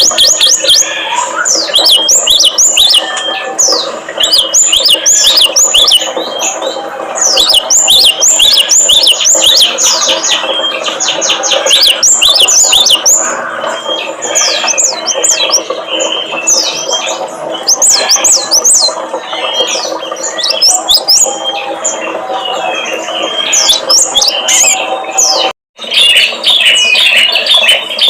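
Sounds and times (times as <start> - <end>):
small songbirds calling: 0.0 - 28.0.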